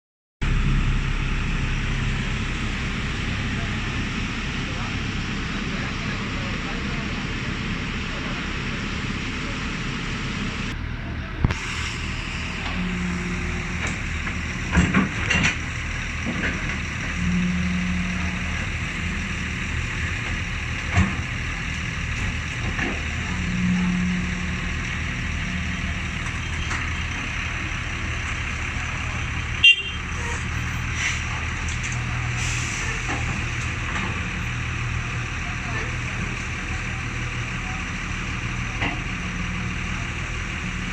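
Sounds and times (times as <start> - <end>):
excavator diesel engine running: 0.4 - 40.9.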